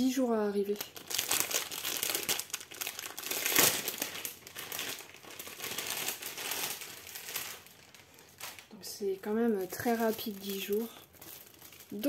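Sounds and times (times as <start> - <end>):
packaging crinkling: 0.6 - 12.0.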